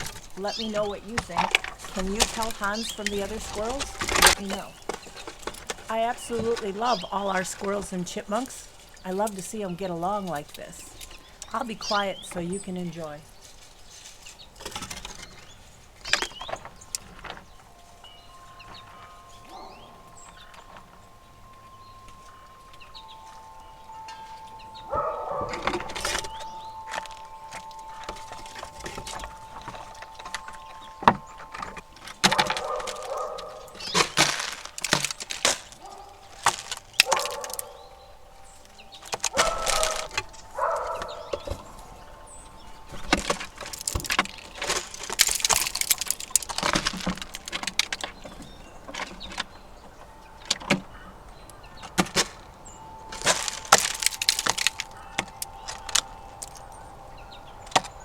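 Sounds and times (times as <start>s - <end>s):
squirrels cracking nut shells: 0.0s - 17.5s, 25.0s - 58.0s.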